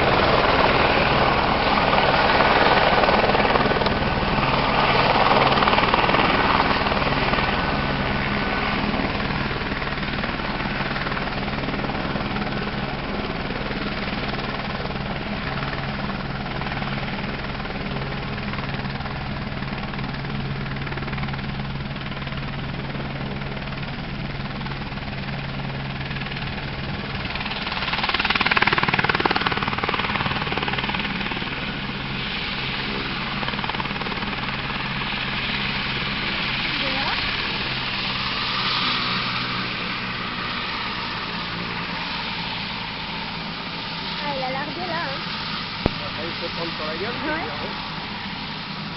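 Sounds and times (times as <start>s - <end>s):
helicopter drone: 0.0s - 48.9s.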